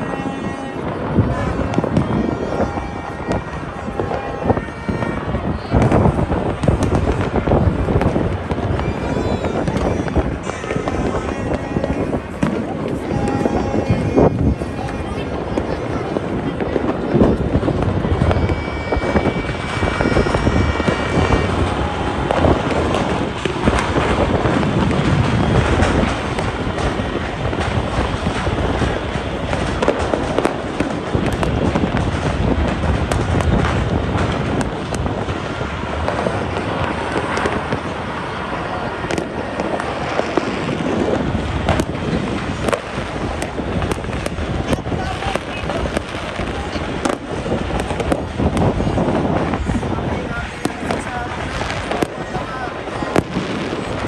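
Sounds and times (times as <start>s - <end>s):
distant fireworks bangs: 0.0s - 54.0s
fireworks crackles and pops: 0.0s - 54.0s
wind buffeting microphone: 0.0s - 54.0s.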